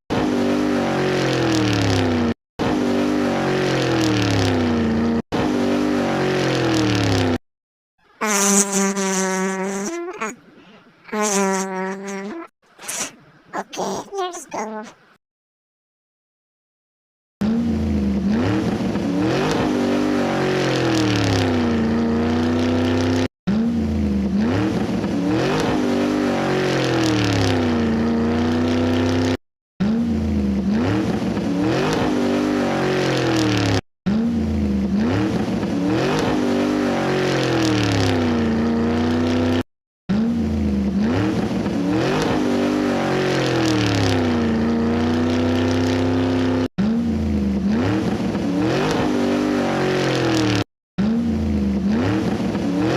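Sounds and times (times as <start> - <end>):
car engine revving: 0.1 - 7.4, 17.4 - 52.9.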